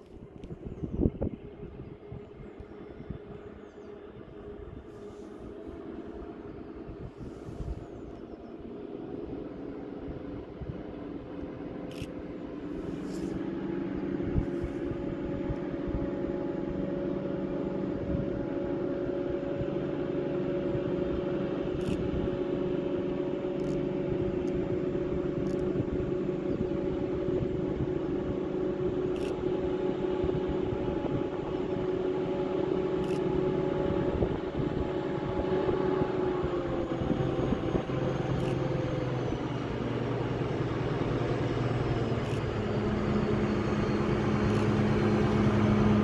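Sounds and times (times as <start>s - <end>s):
diesel locomotive engine droning: 0.0s - 46.0s.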